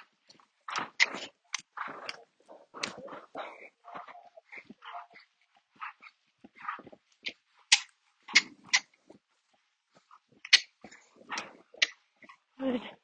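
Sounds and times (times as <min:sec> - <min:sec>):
animal snuffling: 0:00.0 - 0:12.4.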